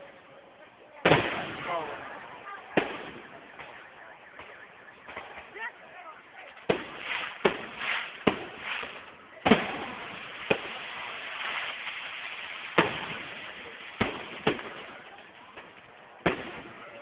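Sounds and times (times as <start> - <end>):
fireworks booming: 1.0 - 17.0.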